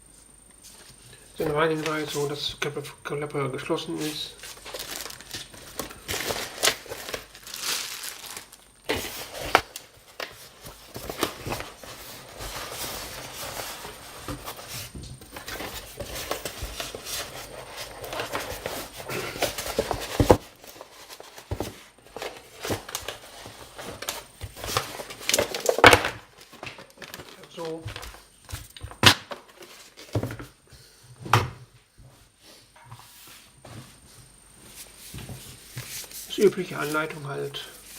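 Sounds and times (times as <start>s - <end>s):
paper and wrapping rustling: 0.7s - 2.6s, 3.6s - 30.6s, 34.7s - 37.9s.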